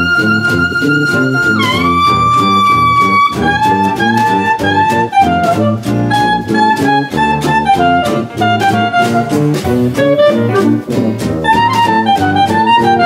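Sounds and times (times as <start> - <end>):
saxophone melody: 0.0 - 13.0
upbeat jazz music: 0.0 - 13.0.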